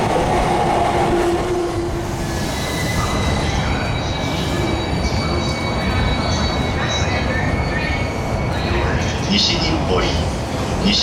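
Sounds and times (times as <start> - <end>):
train cars rumbling: 0.0 - 11.0.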